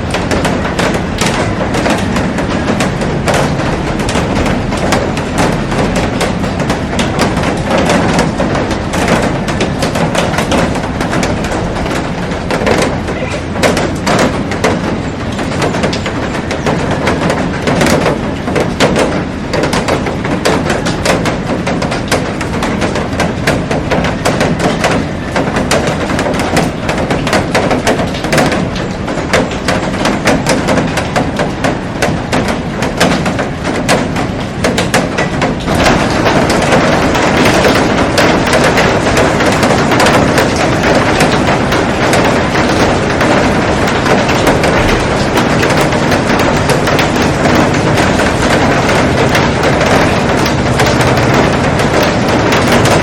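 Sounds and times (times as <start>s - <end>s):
raindrops tapping on glass: 0.0s - 53.0s.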